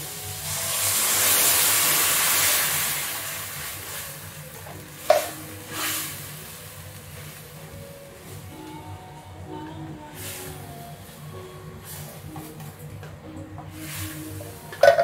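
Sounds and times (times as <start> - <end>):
liquid sizzling in hot pan: 0.0 - 8.8, 10.1 - 12.3, 13.7 - 15.0.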